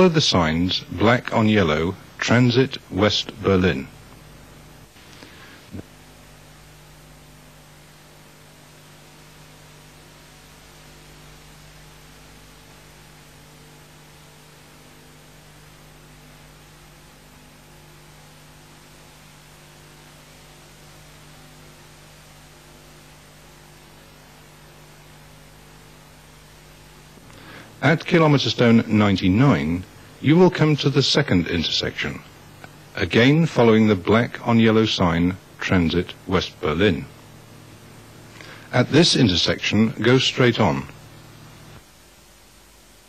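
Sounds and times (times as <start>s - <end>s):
electrical hum with hiss: 0.0s - 43.0s.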